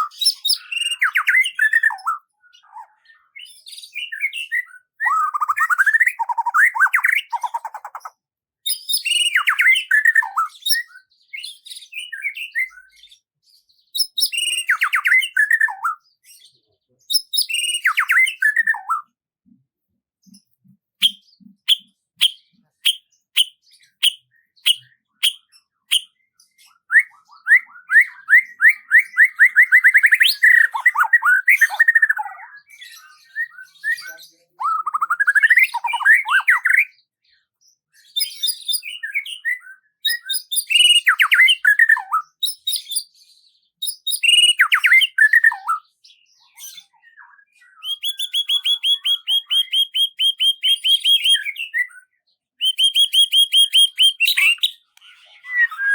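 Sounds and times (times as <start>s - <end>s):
songbirds singing: 0.0s - 55.9s.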